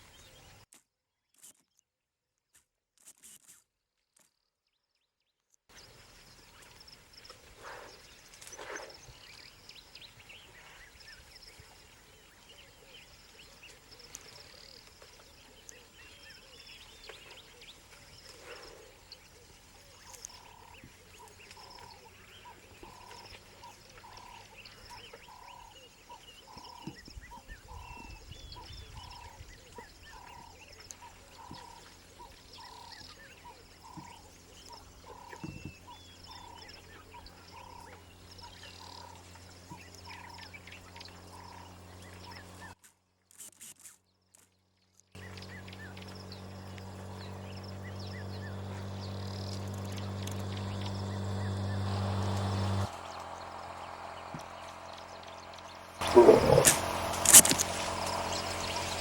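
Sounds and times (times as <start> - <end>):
birds chirping: 5.8 - 42.8, 45.2 - 59.0.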